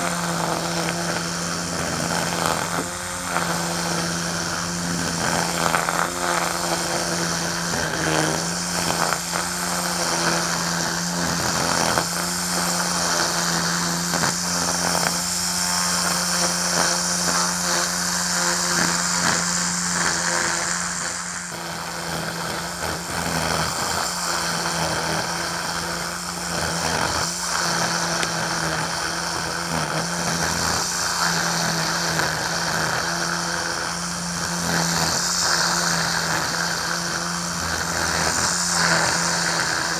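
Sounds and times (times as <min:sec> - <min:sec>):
string trimmer cutting grass: 0:00.0 - 0:39.9.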